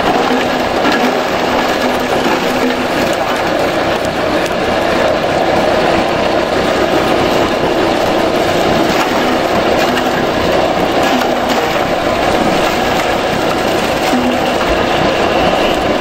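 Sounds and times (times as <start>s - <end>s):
chopper machine running: 0.0s - 16.0s.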